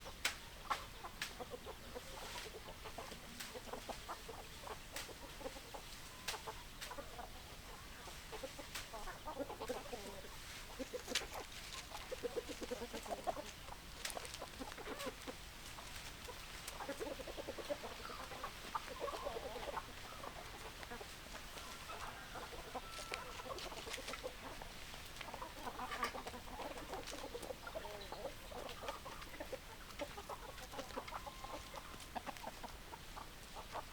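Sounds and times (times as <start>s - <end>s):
hens clucking: 0.0s - 33.9s.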